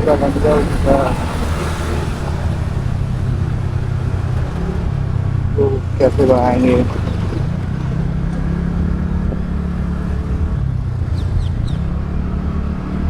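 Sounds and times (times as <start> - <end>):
road and traffic noise: 0.0 - 13.0
scooter engine humming: 0.0 - 13.0.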